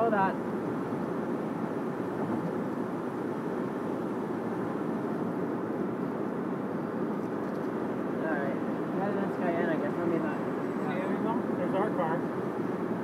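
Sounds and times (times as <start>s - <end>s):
car road and tyre noise: 0.0s - 13.0s.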